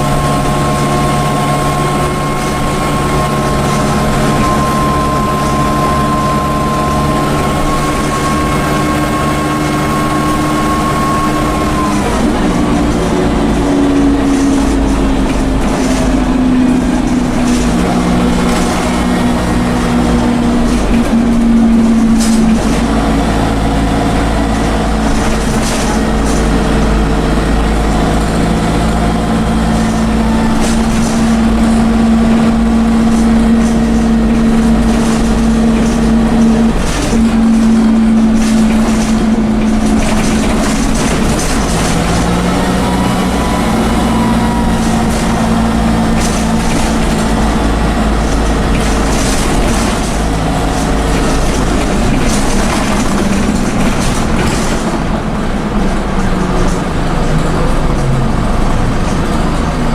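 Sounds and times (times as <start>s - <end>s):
bus diesel engine with turbo whine: 0.0s - 59.9s
rattles: 0.0s - 59.9s.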